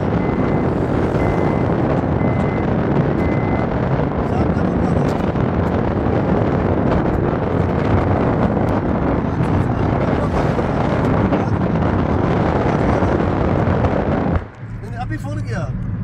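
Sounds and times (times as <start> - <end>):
car road and tyre noise: 0.0 - 16.0
wind buffeting microphone: 0.0 - 16.0.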